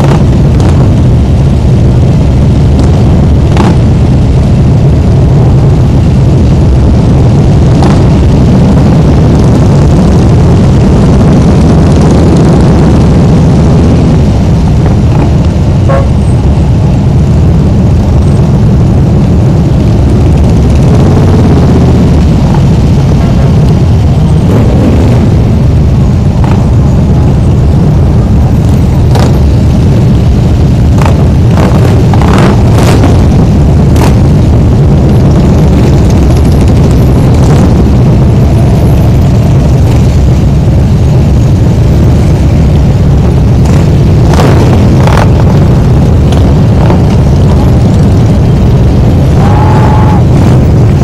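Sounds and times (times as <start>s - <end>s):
motorcycle engines rumbling: 0.0s - 51.0s.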